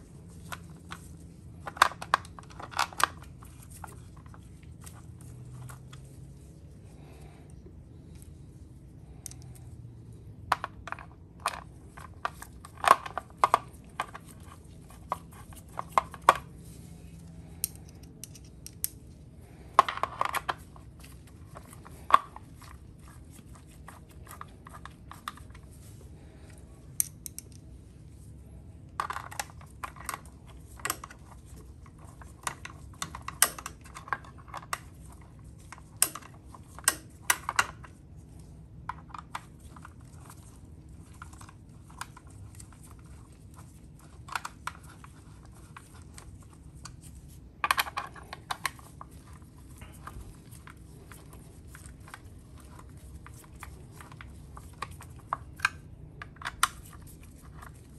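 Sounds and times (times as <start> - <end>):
faint low hum: 0.0 - 57.9.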